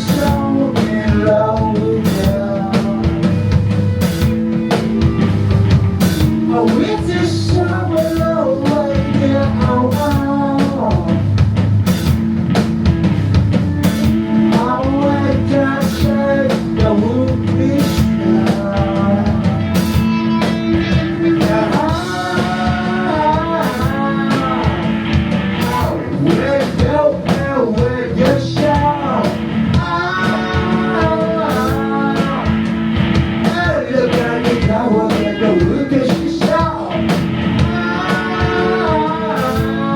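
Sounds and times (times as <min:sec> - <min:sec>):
bass guitar: 0:00.0 - 0:39.9
drum kit with cymbals: 0:00.0 - 0:39.9
wavering lead guitar melody: 0:00.0 - 0:39.9.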